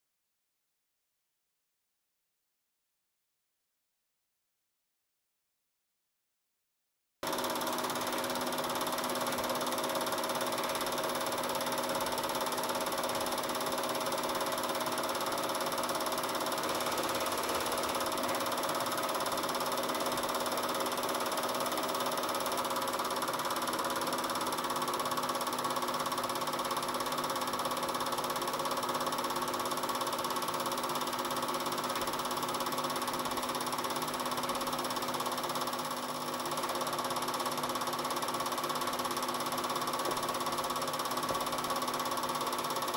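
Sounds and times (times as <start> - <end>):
film projector clattering: 7.2 - 42.9.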